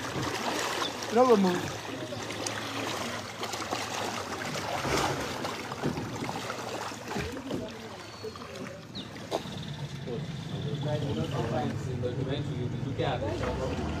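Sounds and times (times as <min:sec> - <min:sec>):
floodwater sloshing and splashing: 0:00.0 - 0:14.0.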